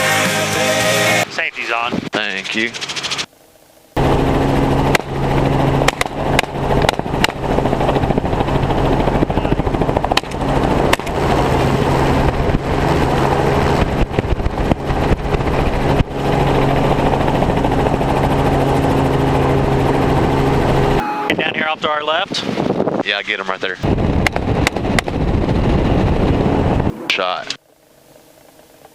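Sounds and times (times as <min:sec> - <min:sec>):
helicopter rotor and engine drone: 0:02.2 - 0:21.9, 0:22.5 - 0:28.9.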